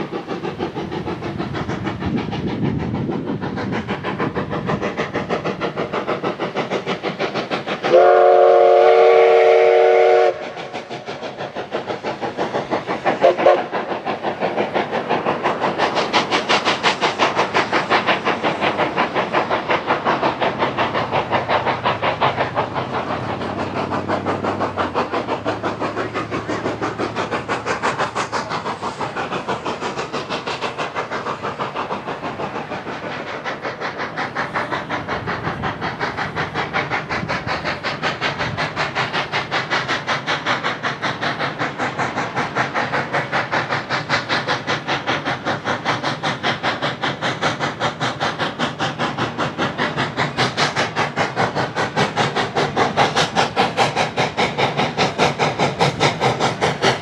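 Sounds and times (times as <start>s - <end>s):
rolling railway cars: 0.0s - 57.0s
steam hiss: 0.0s - 57.0s
steam locomotive chuffing: 0.0s - 57.0s.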